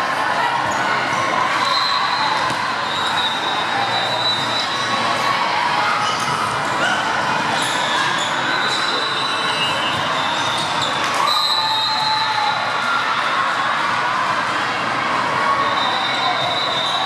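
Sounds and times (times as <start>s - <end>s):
many voices talking: 0.0s - 17.0s.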